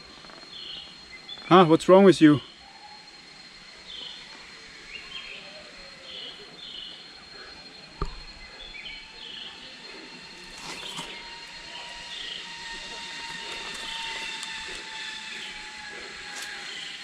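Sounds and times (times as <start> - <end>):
thin insect whine: 0.0 - 17.0.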